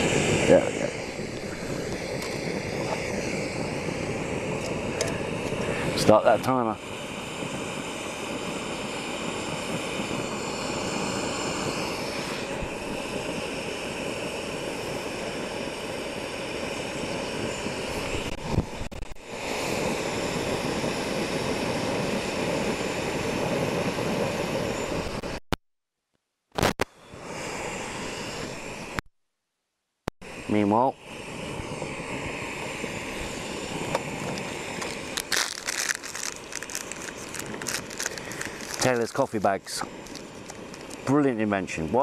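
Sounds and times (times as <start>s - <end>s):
gas stove hissing: 0.0s - 25.4s, 26.9s - 29.0s, 30.2s - 42.0s.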